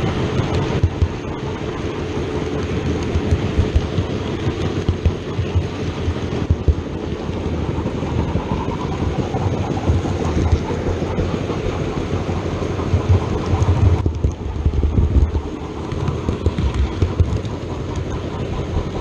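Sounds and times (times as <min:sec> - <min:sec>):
model train rumbling on track: 0:00.0 - 0:19.0
wheels clicking: 0:00.0 - 0:19.0.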